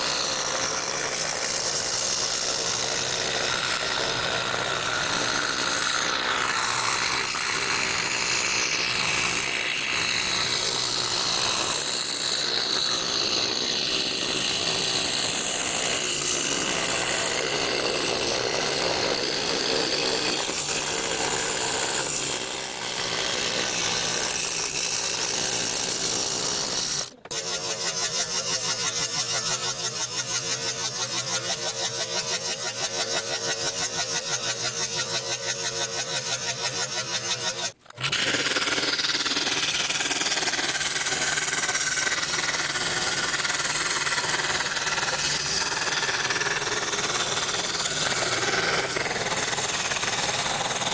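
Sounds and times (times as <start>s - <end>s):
scroll saw cutting plywood: 0.0s - 50.9s.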